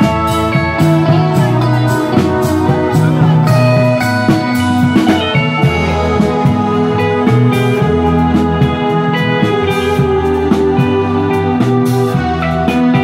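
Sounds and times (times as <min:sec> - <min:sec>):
held lead melody line: 0:00.0 - 0:13.0
live band playing: 0:00.0 - 0:13.0.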